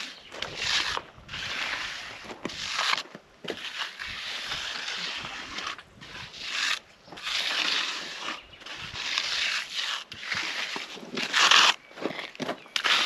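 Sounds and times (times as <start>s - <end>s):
rough scraping strokes: 0.0s - 13.0s.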